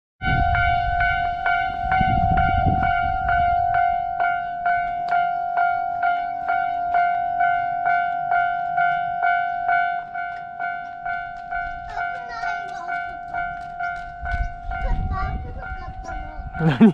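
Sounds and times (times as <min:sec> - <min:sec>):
level crossing bell clanging: 0:00.3 - 0:16.9.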